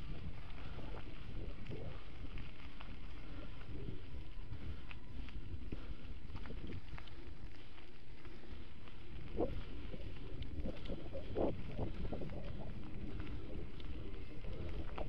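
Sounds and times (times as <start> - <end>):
gravel clicks and crunches: 0.0 - 15.0
wind buffeting microphone: 0.0 - 15.0.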